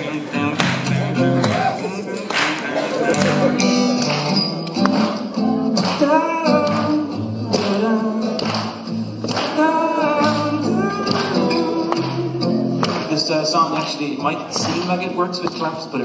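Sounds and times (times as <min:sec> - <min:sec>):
man singing: 0:00.0 - 0:04.0, 0:05.2 - 0:16.0
acoustic guitar: 0:00.0 - 0:16.0
audience clapping along: 0:00.0 - 0:16.0.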